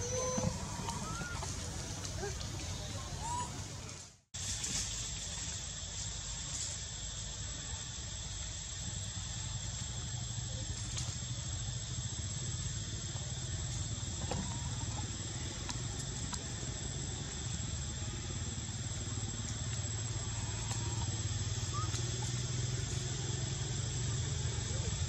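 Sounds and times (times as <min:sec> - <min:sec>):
engine humming: 0:00.0 - 0:04.3, 0:08.9 - 0:25.0
steady hiss: 0:00.0 - 0:25.0.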